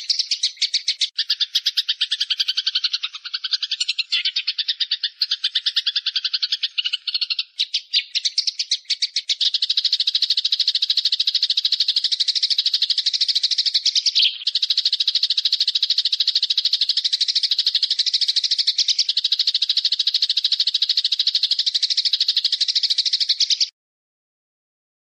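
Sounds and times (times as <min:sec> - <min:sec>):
small bird rattling call: 0:00.0 - 0:23.7.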